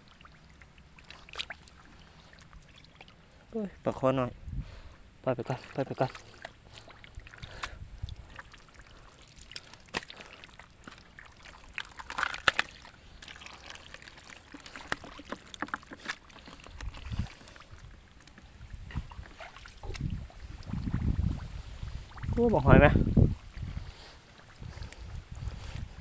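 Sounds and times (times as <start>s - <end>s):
splashing in shallow water: 0.0s - 3.4s, 5.2s - 26.0s.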